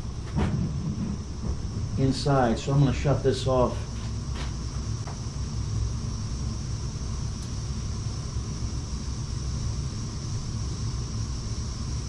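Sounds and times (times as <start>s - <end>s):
boiler low rumble: 0.0s - 12.0s.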